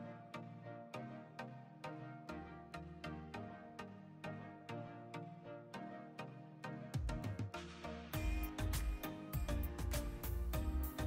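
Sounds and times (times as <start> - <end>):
chill background music: 0.0 - 11.0.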